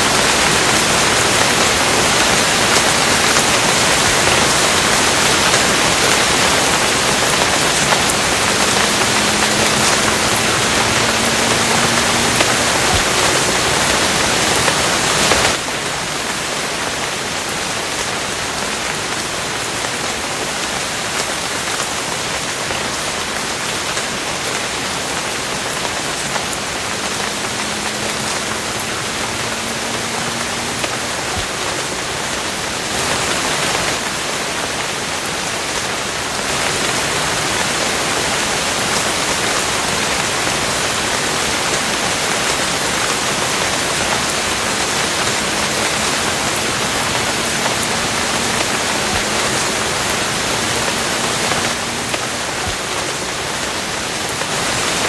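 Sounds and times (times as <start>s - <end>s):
dense rain hiss: 0.0s - 55.0s.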